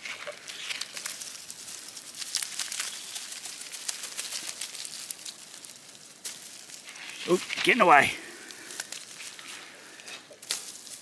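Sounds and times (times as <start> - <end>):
dry grass crackling and rustling: 0.0 - 11.0.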